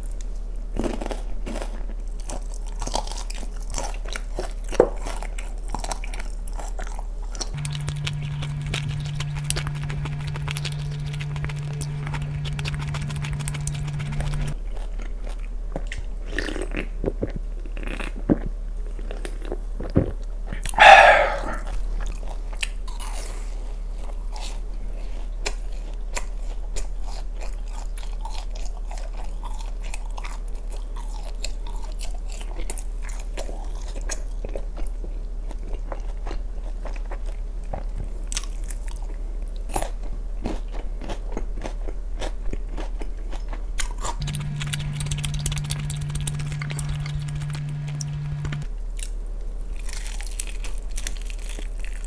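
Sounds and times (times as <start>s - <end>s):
low steady hum: 0.0s - 40.4s, 41.4s - 52.0s
chewing crunchy fried chicken: 0.0s - 52.0s.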